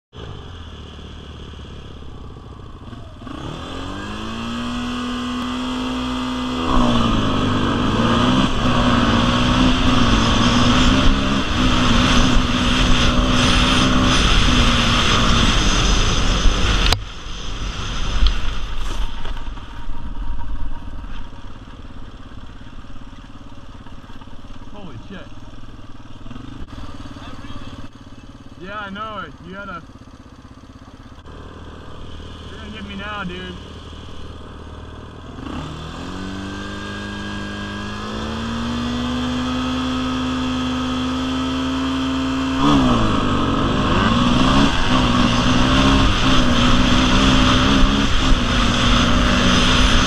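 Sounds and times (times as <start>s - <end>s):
atv engine revving: 0.1s - 50.0s.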